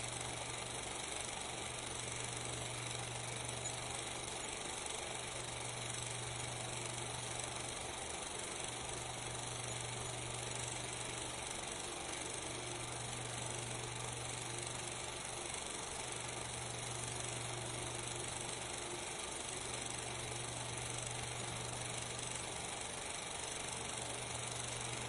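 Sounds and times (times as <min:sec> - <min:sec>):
film projector whirring: 0:00.0 - 0:25.0.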